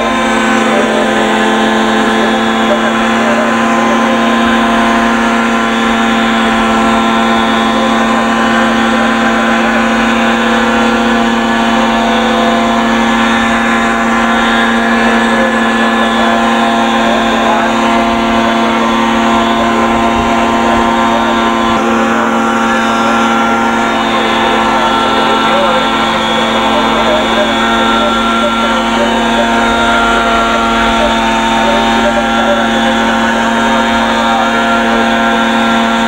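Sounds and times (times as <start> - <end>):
model helicopter engine droning: 0.0 - 36.0.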